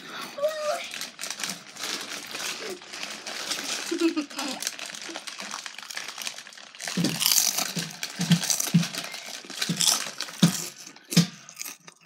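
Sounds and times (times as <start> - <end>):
chip bag crinkling: 0.6 - 12.0
chips being chewed: 1.3 - 12.0.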